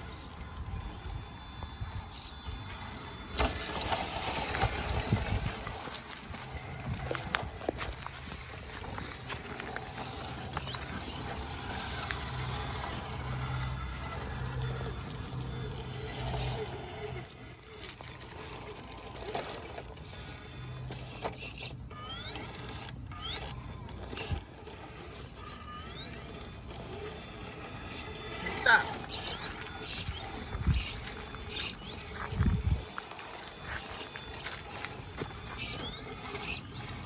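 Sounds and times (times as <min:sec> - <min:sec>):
rc crawler motor whining: 0:00.0 - 0:37.0.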